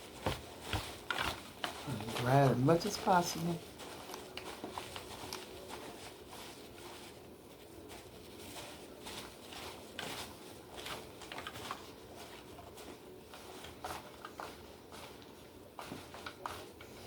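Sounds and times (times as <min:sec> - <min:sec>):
paper towels rustling and patting: 0:00.0 - 0:17.0.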